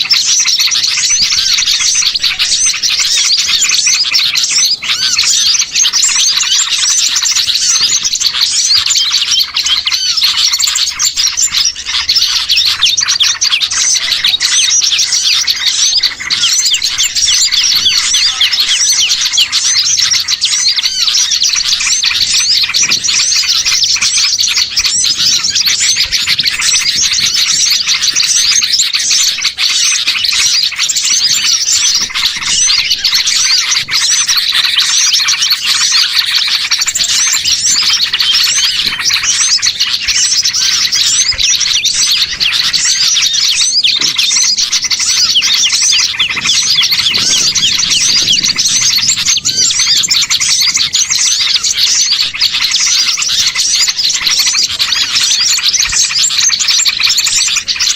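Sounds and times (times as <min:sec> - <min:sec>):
songbirds chirping and chattering: 0:00.0 - 0:57.9.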